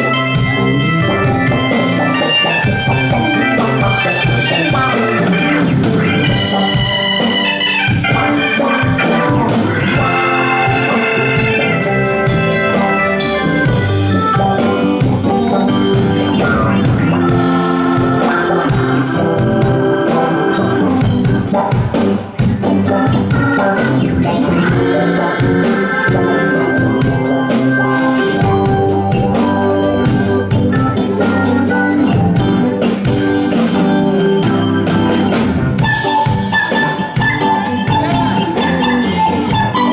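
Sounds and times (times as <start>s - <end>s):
electric organ runs: 0.0s - 39.9s
rock band playing: 0.0s - 39.9s.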